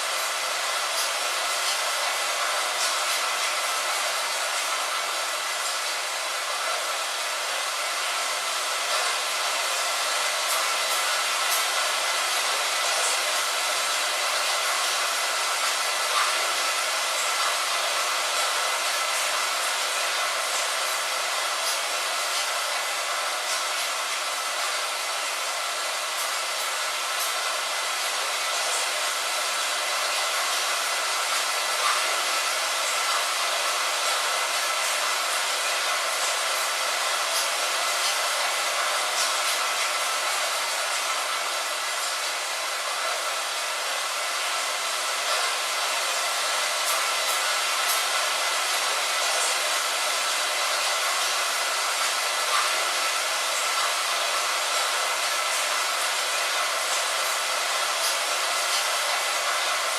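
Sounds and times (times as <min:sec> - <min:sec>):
steady light rain: 0:00.0 - 0:59.9.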